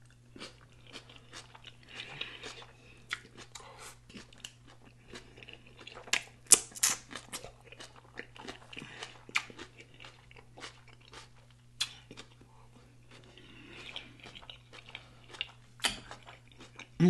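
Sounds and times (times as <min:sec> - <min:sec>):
close chewing with mouth smacks: 0:00.0 - 0:17.0.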